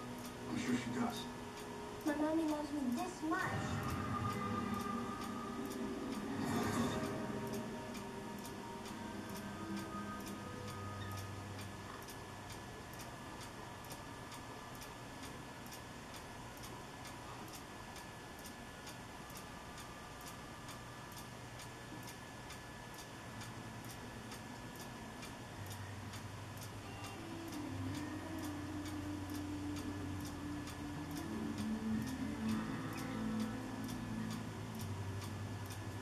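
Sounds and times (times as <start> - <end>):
faint low hum: 0.0 - 36.0
faint steady tones: 0.0 - 36.0
high-pitched ticking: 0.0 - 36.0.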